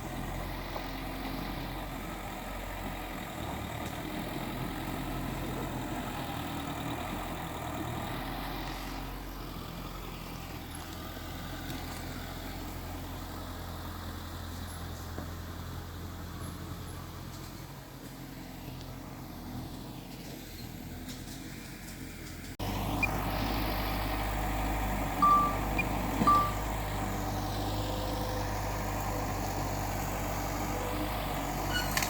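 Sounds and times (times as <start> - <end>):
heavy machinery diesel engine: 0.0 - 32.0.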